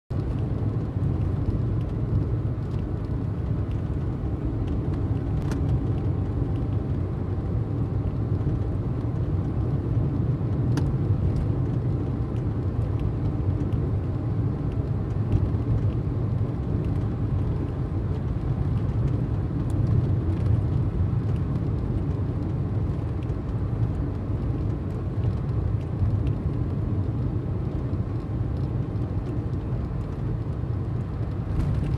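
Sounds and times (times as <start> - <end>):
car cabin road noise: 0.1 - 31.9.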